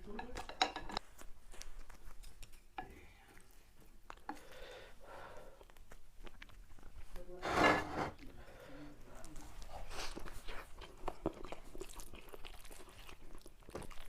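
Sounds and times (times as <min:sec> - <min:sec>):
chewing: 0:00.9 - 0:07.4, 0:09.0 - 0:14.0.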